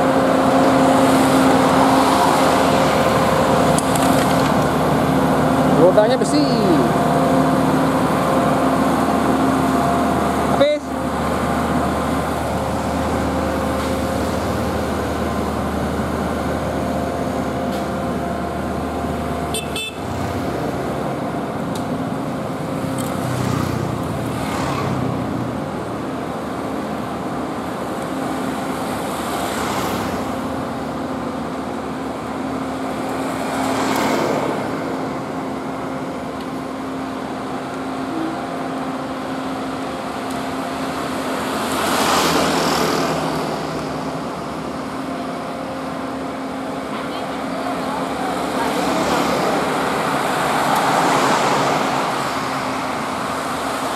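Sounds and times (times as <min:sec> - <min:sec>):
diesel engines droning: 0:00.0 - 0:53.9
motorbikes passing: 0:00.0 - 0:53.9.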